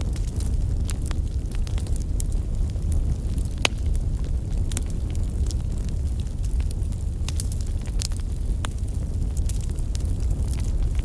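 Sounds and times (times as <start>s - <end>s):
crackles and pops from logs: 0.0s - 11.0s
low rumble of flames: 0.0s - 11.0s.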